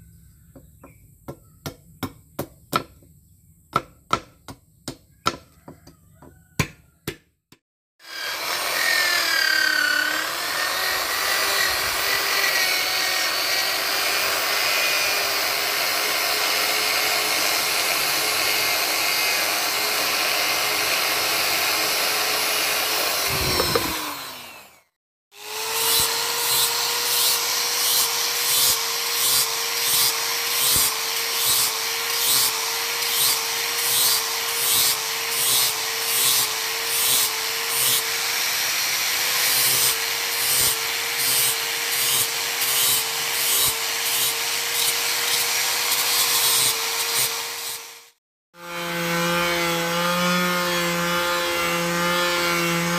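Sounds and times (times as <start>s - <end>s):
electric grinder on steel blade: 8.0s - 52.9s.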